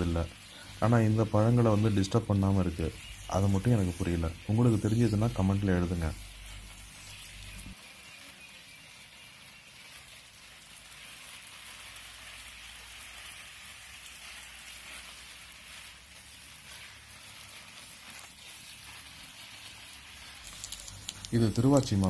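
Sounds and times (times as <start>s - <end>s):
water splashing through leaves: 0.0s - 22.0s.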